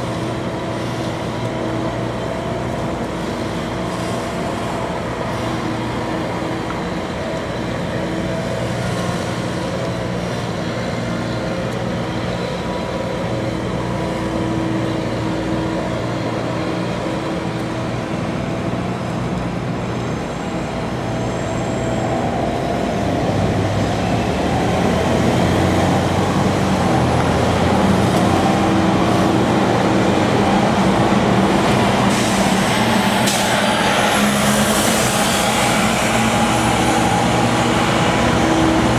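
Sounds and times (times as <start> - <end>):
bus passing: 0.0 - 38.9
litter vacuum engine drone: 0.0 - 38.9
street traffic: 0.0 - 38.9.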